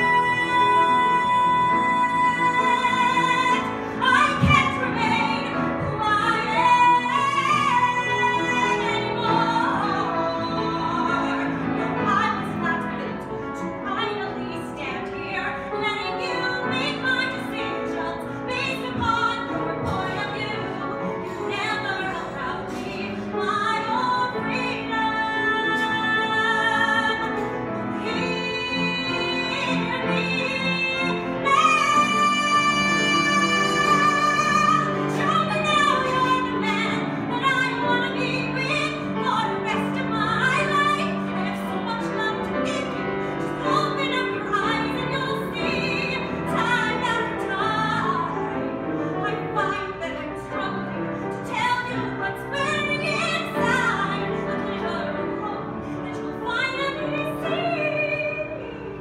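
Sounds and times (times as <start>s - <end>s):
piano accompaniment: 0.0s - 59.0s.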